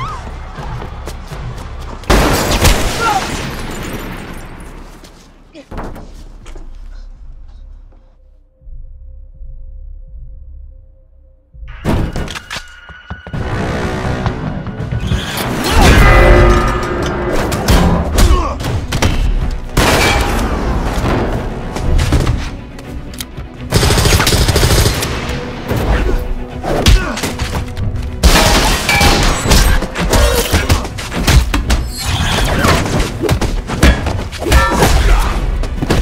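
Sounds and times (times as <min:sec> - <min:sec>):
action movie music score: 0:03.7 - 0:36.0.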